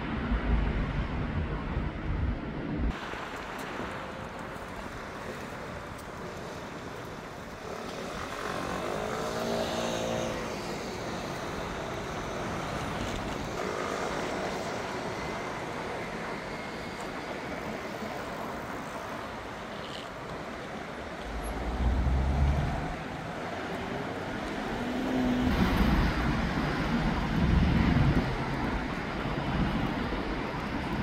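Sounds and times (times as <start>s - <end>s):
road traffic passing: 0.0s - 31.0s
vehicle whine: 5.2s - 31.0s.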